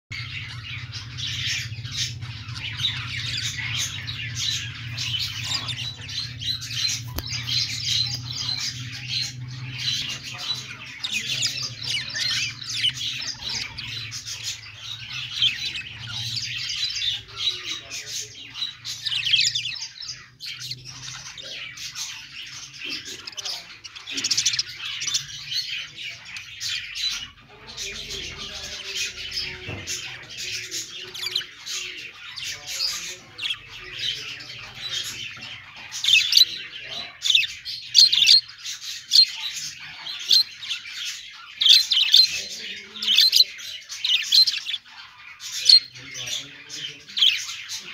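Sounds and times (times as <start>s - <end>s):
budgerigars chattering and chirping: 0.1s - 47.9s.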